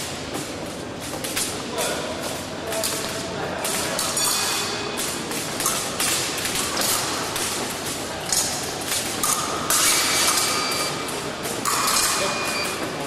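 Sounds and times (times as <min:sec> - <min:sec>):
busy hall noise: 0:00.0 - 0:13.0
fencing blades tapping: 0:00.3 - 0:13.0.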